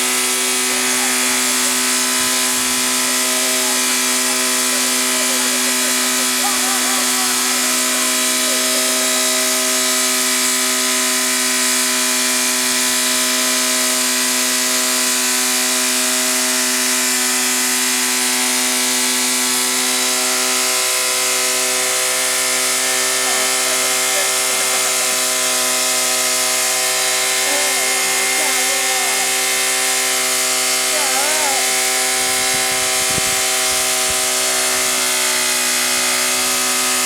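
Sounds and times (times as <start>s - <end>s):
car engine high-pitched running: 0.0s - 37.0s.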